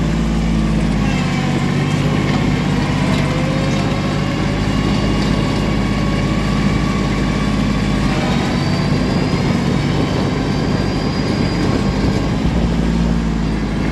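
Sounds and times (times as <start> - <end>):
vehicle engine running: 0.0 - 13.9.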